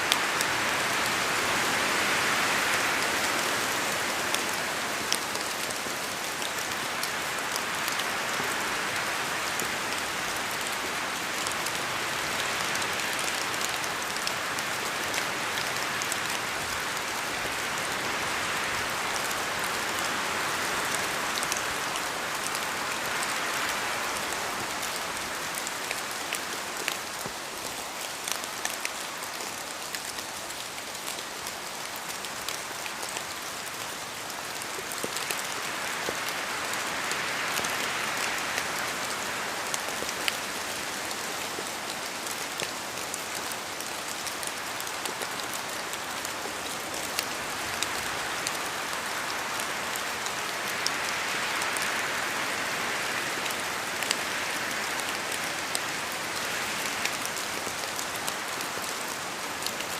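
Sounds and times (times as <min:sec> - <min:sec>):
rain falling: 0:00.0 - 0:59.9
raindrops striking a surface: 0:01.9 - 0:59.9.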